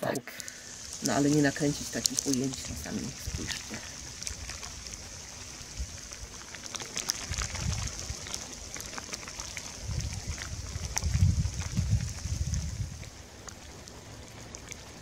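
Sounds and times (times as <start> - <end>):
steady hiss: 0.0 - 15.0
wind buffeting microphone: 0.6 - 15.0.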